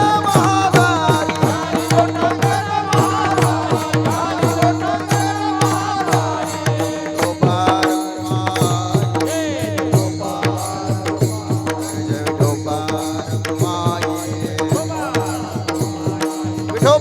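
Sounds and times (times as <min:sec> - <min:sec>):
fast hand-drum beat: 0:00.0 - 0:17.0
sharp percussive strikes: 0:00.0 - 0:17.0.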